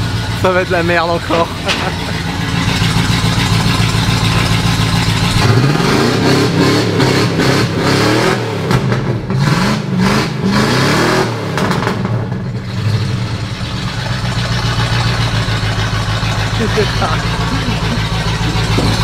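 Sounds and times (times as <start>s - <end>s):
large engine revving and idling: 0.0s - 19.0s.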